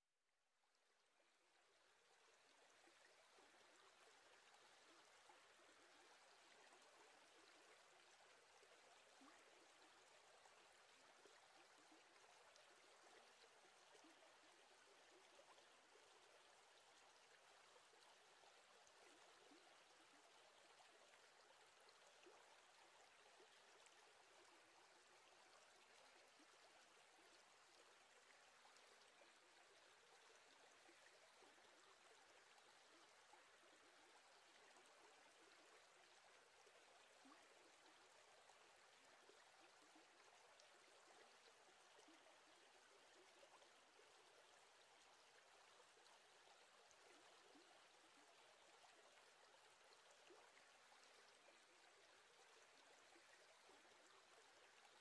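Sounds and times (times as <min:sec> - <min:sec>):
faint steady hiss: 0:00.0 - 0:55.0.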